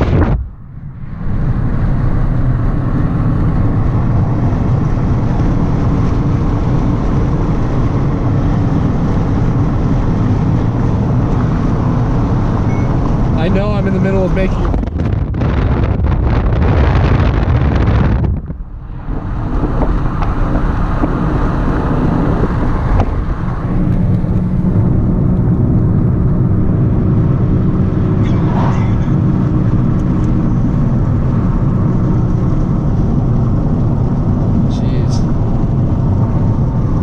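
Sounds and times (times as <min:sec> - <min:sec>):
car engine hum: 0:00.0 - 0:37.0.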